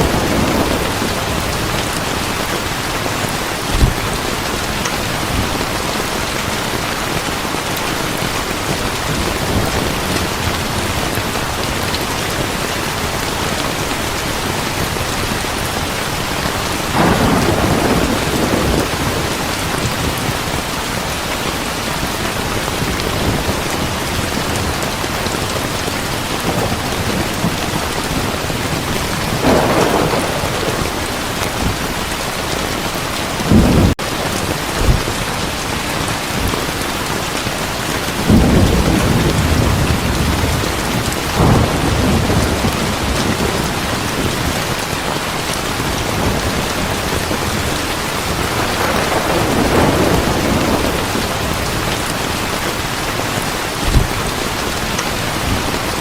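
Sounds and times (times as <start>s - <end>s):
thunder rumbling: 0.0s - 7.4s, 8.1s - 20.7s, 22.0s - 36.7s, 38.1s - 52.9s
heavy rain: 0.0s - 56.0s.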